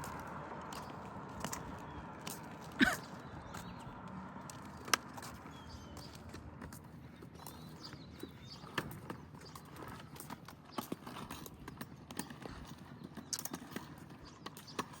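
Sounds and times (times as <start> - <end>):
footsteps on path: 0.0 - 15.0.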